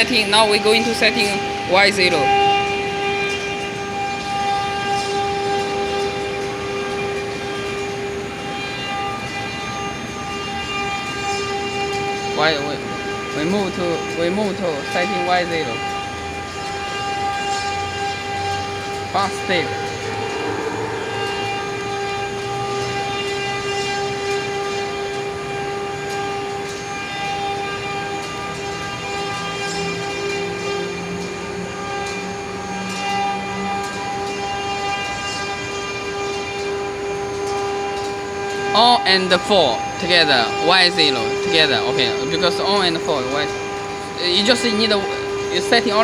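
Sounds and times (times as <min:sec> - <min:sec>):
engraving machine motor whine: 0:00.0 - 0:46.0.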